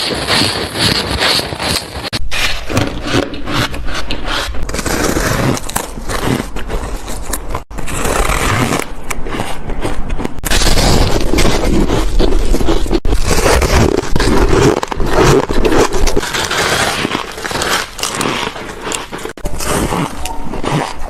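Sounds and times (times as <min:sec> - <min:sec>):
crunching frost: 0:00.0 - 0:21.0.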